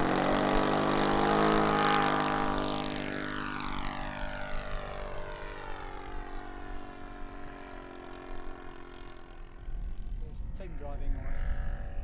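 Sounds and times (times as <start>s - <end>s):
model plane engine running: 0.0s - 12.0s.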